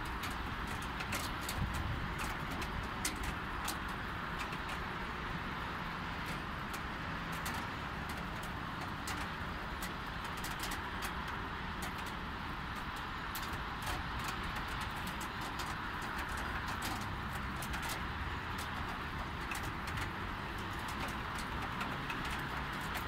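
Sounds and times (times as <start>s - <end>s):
distant road traffic on wet streets: 0.0s - 23.0s
drops ticking on surfaces: 0.0s - 23.0s
light rain falling: 0.0s - 23.0s.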